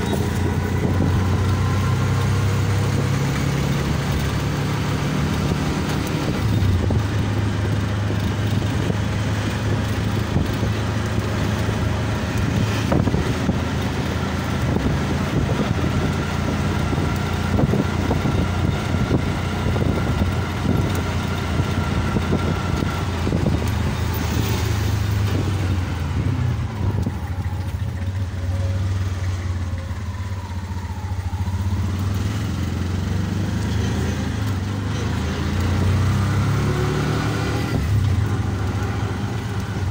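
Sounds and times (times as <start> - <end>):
auto-rickshaw engine running: 0.0 - 39.9
road and wind noise: 0.0 - 39.9.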